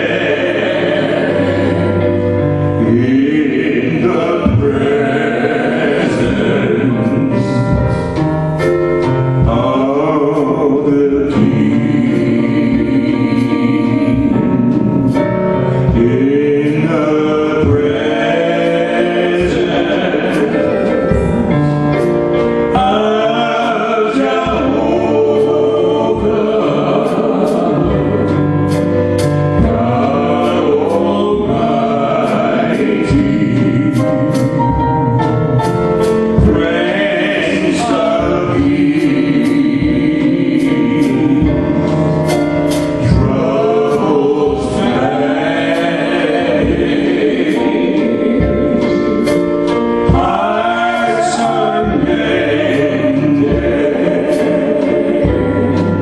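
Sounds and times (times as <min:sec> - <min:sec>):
choir singing gospel song: 0:00.0 - 0:56.0.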